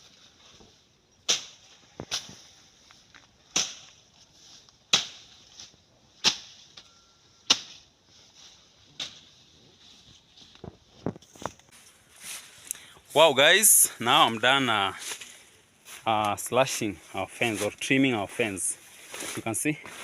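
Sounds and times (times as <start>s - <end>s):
blade swishing through undergrowth: 0.0s - 12.7s, 14.2s - 20.0s.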